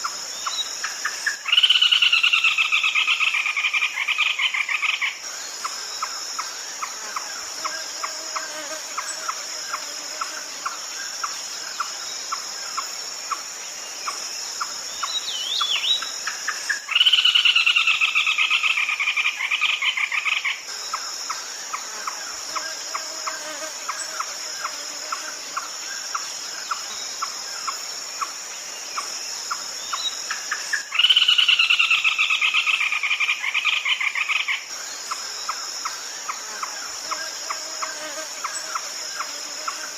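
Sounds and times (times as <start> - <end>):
high insect buzz: 0.0 - 39.9.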